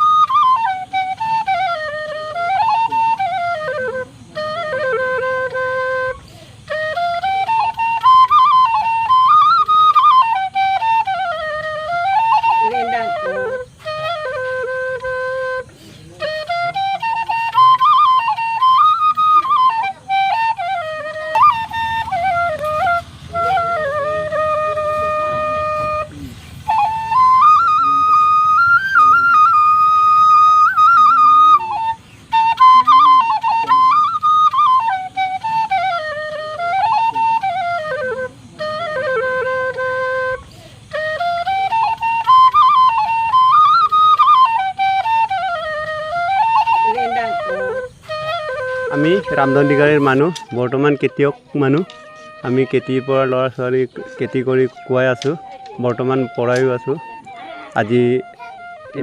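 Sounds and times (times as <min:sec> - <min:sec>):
solo flute melody: 0:00.0 - 0:59.0.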